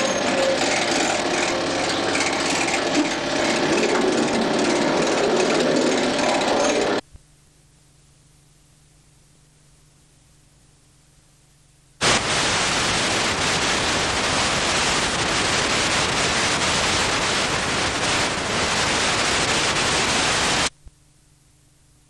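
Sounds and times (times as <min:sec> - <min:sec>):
videotape static hiss: 0:00.0 - 0:22.0.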